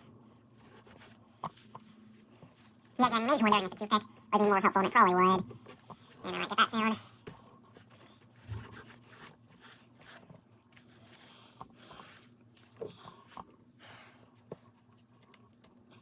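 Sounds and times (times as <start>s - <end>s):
paper towel scrubbing plastic: 0.6s - 13.4s.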